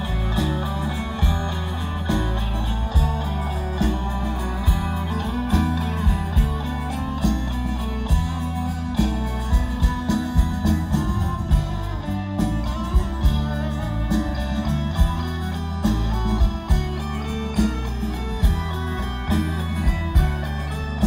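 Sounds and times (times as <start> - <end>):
folk-rock band playing: 0.0 - 21.0
guitar: 0.0 - 21.0.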